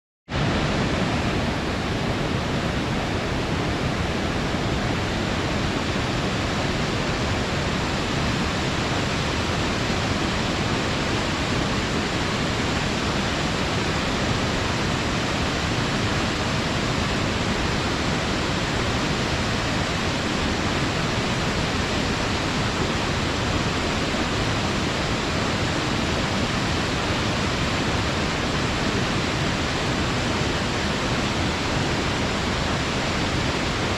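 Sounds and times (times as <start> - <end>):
stream and small waterfall rushing: 0.3 - 33.9.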